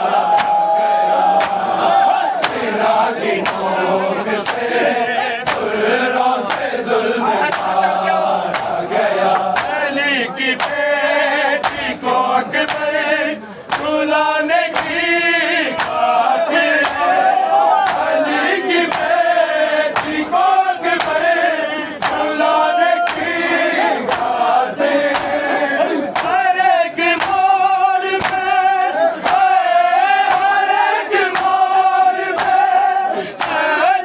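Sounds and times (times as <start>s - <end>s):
men chanting mournful melody: 0.0s - 34.0s.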